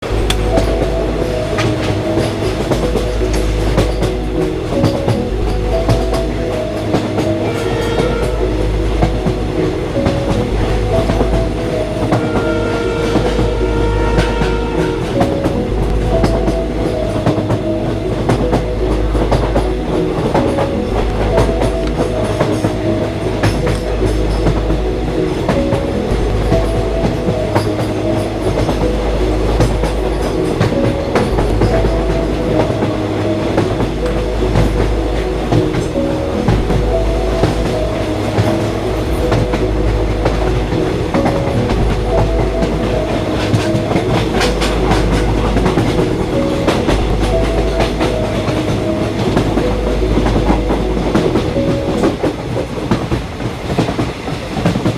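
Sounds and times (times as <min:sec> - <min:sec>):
low rumble: 0:00.0 - 0:53.5
train roaring along rails: 0:00.0 - 0:54.9
wheels clacking over rail joints: 0:00.0 - 0:54.9.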